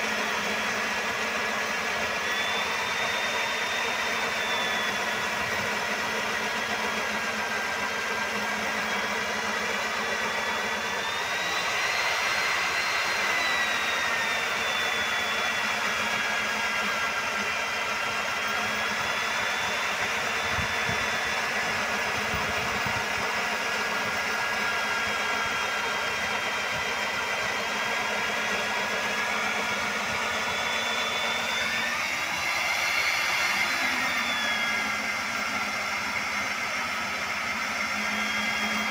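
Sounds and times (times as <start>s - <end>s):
core drill cutting concrete: 0.0s - 38.9s.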